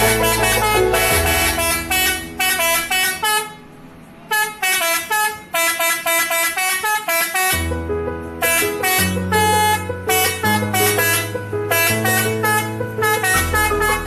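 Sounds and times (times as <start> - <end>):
air horn playing a quick tune: 0.0 - 3.6, 4.3 - 7.8, 8.4 - 14.0.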